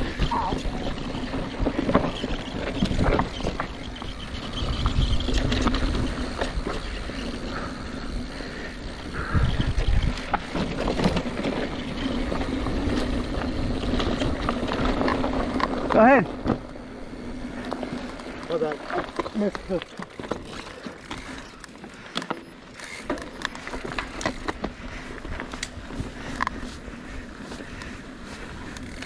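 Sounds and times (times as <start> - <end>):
bike knocking and rattling: 0.0 - 29.0
bike tyres crunching over stones: 0.0 - 29.0.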